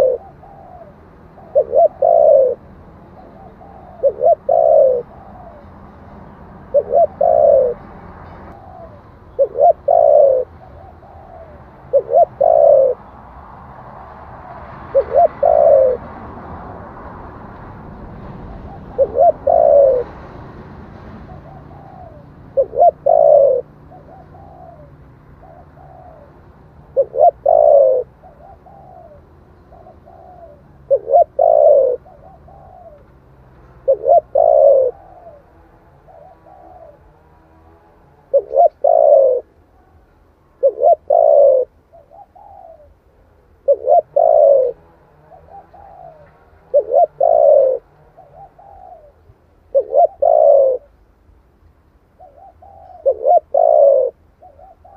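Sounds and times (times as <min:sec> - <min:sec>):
dove cooing: 0:00.0 - 0:13.2, 0:13.8 - 0:16.7, 0:18.1 - 0:20.4, 0:21.2 - 0:51.0, 0:52.1 - 0:54.9.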